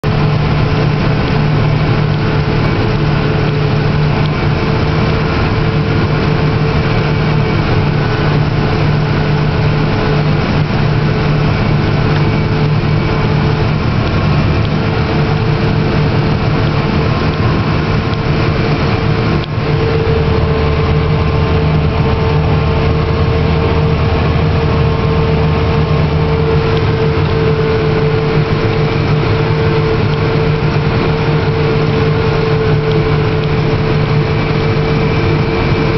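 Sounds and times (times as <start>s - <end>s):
combine harvester engine drone: 0.0s - 35.9s.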